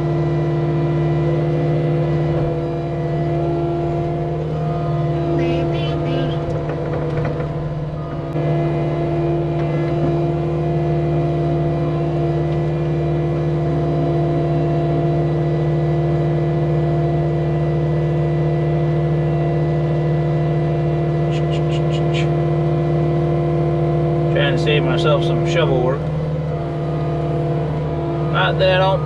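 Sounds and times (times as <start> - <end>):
loader diesel engine running: 0.0 - 29.0.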